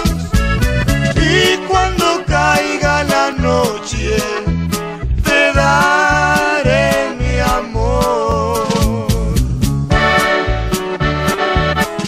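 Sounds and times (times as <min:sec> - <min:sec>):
button accordion melody: 0:00.0 - 0:07.6, 0:09.9 - 0:12.0
bass notes: 0:00.0 - 0:12.0.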